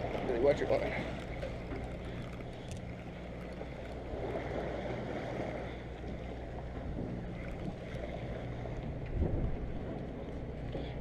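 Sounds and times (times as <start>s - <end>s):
boat engine humming: 0.0s - 11.0s
sea wash: 0.0s - 11.0s
wind: 0.0s - 11.0s.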